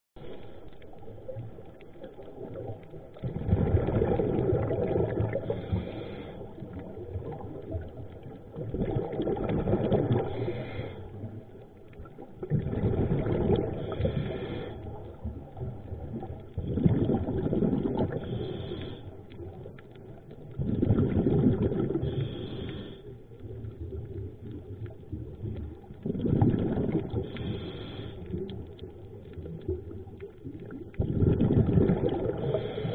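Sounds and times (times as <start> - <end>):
exhaled bubbles underwater: 0.2 - 32.9.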